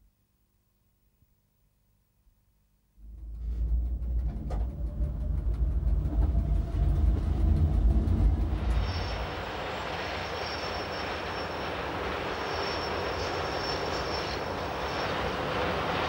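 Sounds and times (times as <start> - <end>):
faint high whine: 0.0 - 16.0
electric train rumbling: 3.0 - 16.0.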